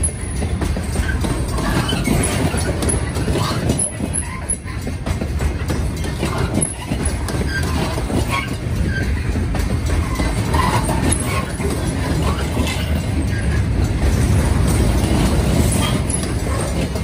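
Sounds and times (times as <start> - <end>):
train clatter: 0.0 - 17.0
train wheels rumbling on rails: 0.0 - 17.0.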